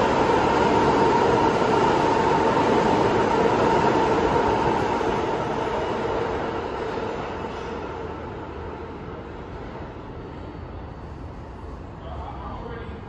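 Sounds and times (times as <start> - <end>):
subway train passing: 0.0 - 13.0
train whine: 0.0 - 13.0.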